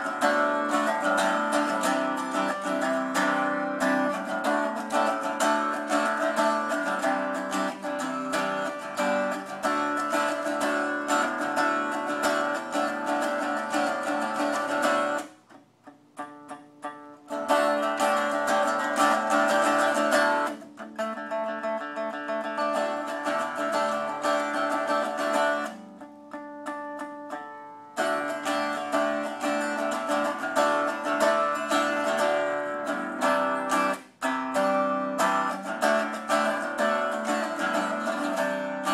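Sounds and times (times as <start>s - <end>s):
unplugged electric guitar strumming: 0.0s - 38.9s.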